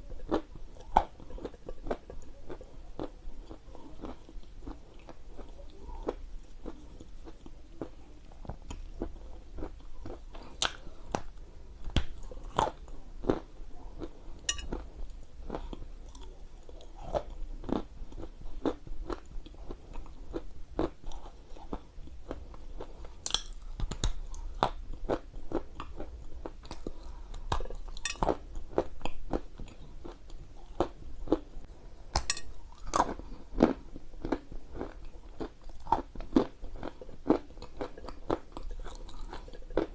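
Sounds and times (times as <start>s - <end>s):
crunchy chewing of clay: 0.1s - 31.5s, 32.7s - 39.9s.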